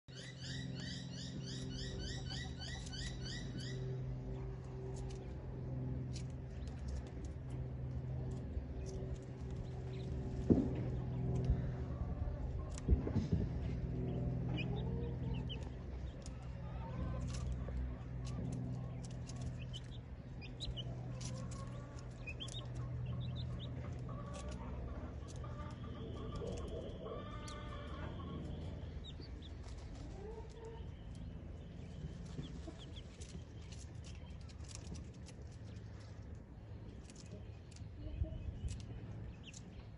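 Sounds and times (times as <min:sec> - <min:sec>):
chicks peeping: 0:00.1 - 0:39.9
steady low hum: 0:00.1 - 0:39.9.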